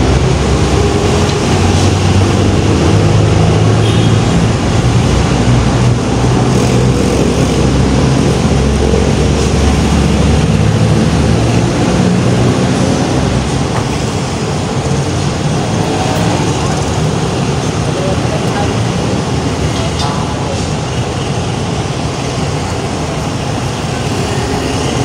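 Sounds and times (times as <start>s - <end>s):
road traffic noise: 0.0s - 25.0s
vehicle engine humming: 0.0s - 25.0s.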